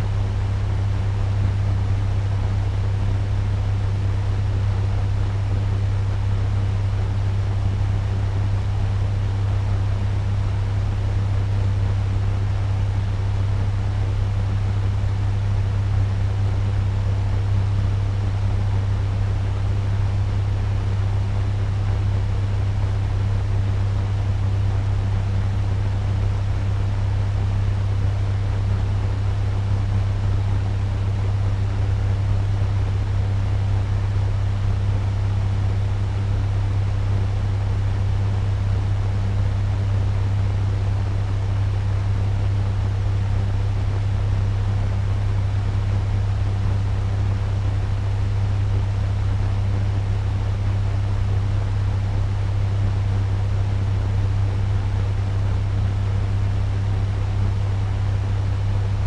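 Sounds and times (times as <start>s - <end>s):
fan running: 0.0s - 59.0s.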